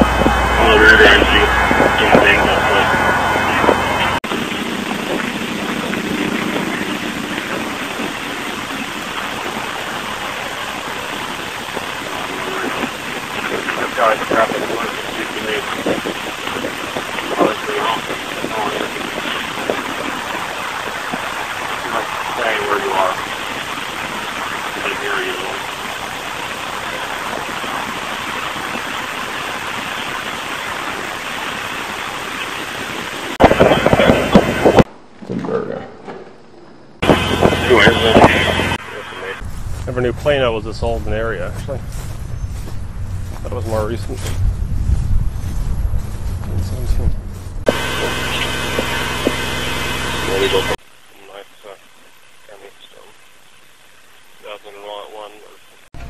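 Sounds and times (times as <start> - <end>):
steady rushing hiss: 0.0 - 34.9, 37.0 - 56.0.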